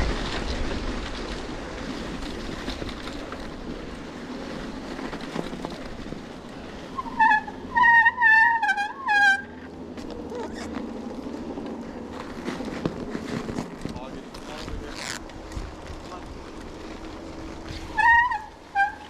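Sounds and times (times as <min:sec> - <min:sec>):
rumble of movement: 0:00.0 - 0:19.0.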